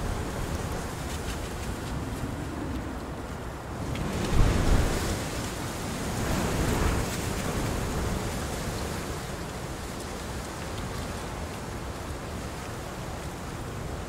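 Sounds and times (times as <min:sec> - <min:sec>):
heavy rain on leaves: 0:00.0 - 0:14.0.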